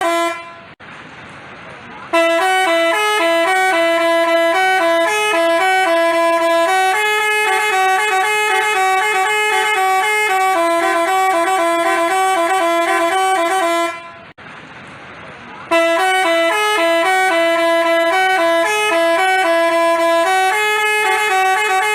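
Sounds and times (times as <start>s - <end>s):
musical bus horn melody: 0.0s - 0.8s, 2.1s - 14.4s, 15.7s - 21.9s.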